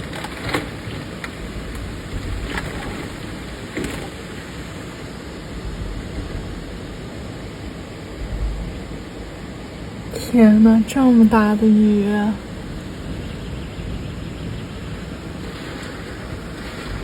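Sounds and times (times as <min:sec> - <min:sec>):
wind rumbling on microphone: 0:00.0 - 0:17.0
windy rainstorm rushing: 0:00.0 - 0:17.0.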